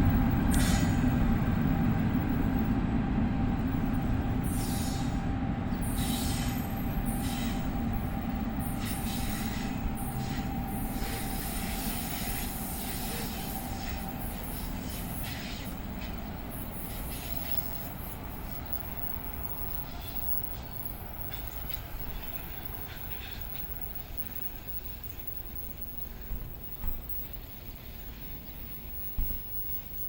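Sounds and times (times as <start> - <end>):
faint steady whine: 0.0 - 30.0
train running along track: 0.0 - 30.0.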